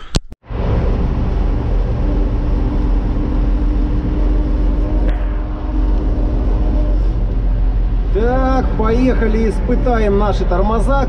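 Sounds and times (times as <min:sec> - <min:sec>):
diesel engine running: 0:00.5 - 0:11.0.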